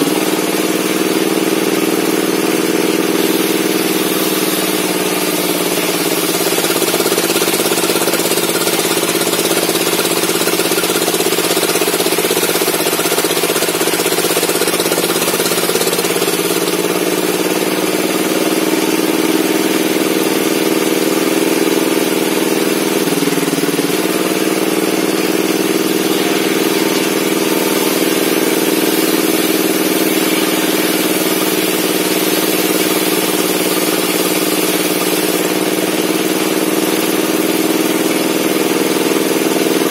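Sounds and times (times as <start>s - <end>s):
circular saw running: 0.0s - 39.9s.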